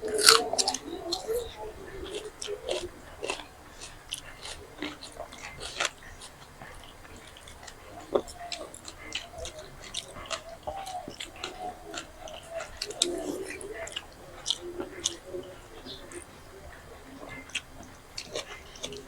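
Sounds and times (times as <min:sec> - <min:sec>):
people chewing and crunching: 0:00.0 - 0:19.0.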